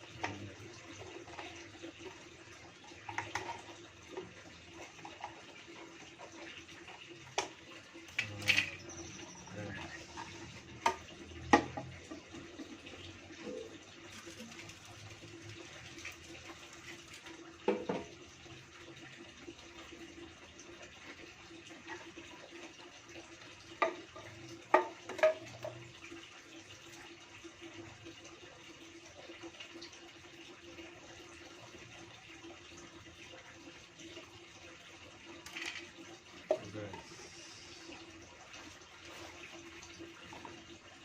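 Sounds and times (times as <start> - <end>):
running water hiss: 0.0 - 28.1, 35.2 - 40.8.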